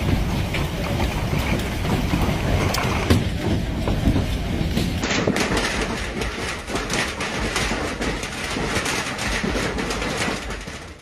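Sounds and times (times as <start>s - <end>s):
hailstones hammering wet pavement: 0.0s - 11.0s
hailstones pelting down: 0.0s - 11.0s.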